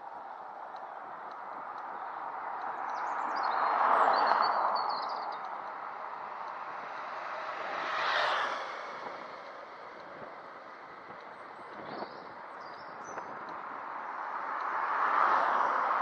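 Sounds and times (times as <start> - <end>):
bicycle road and wind noise: 0.0 - 16.0.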